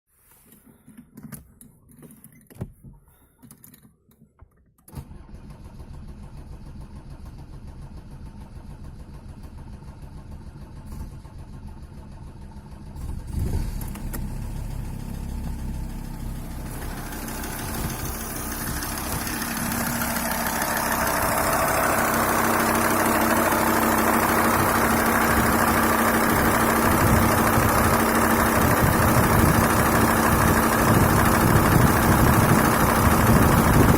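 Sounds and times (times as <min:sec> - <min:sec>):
diesel engine starting and idling: 0:04.9 - 0:33.9.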